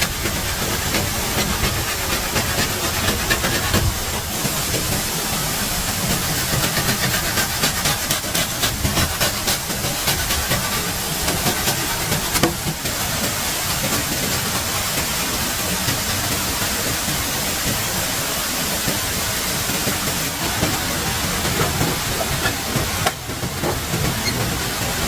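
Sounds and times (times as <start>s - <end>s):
water rushing hiss: 0.0s - 25.0s.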